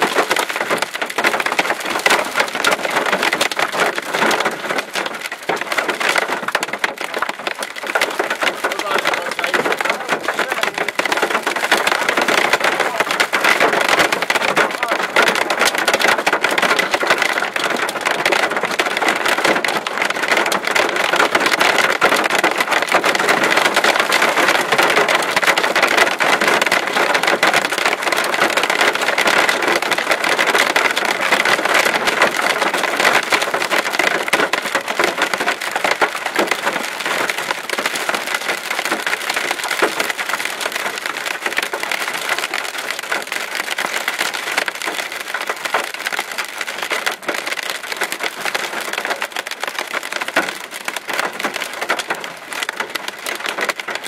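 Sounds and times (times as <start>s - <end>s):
hail and heavy rain on vehicle: 0.0s - 54.0s.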